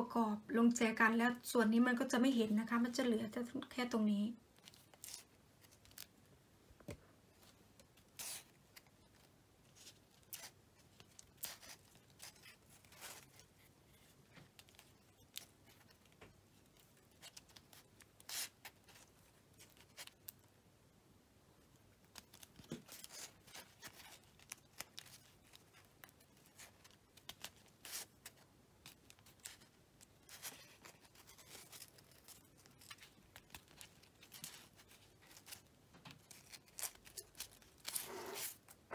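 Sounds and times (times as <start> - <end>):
tape rustling and crinkling: 4.5 - 6.2, 6.9 - 20.6, 21.6 - 38.9.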